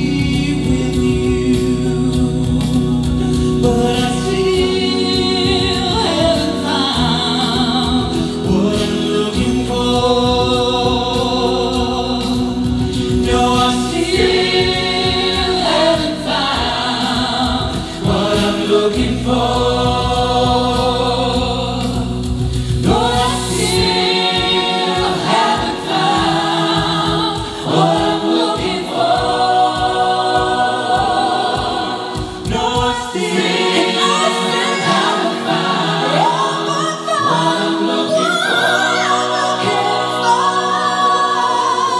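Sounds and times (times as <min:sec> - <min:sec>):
vocal group singing in harmony: 0:00.0 - 0:41.9.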